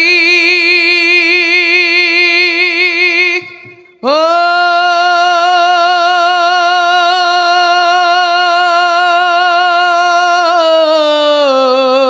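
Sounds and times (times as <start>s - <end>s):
person singing long note: 0.0s - 12.0s.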